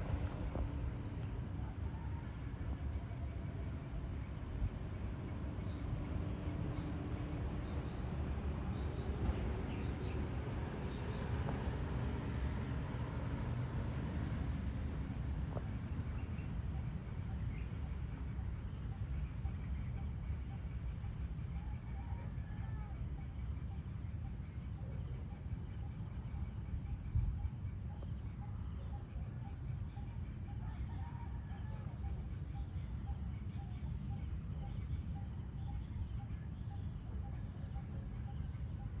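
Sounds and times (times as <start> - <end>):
insect drone: 0.0 - 39.0.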